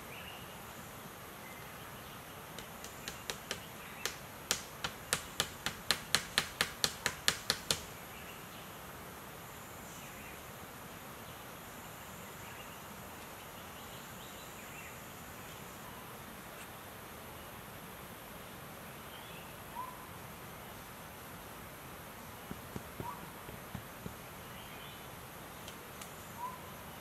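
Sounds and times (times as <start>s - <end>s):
faint outdoor background: 0.0s - 27.0s.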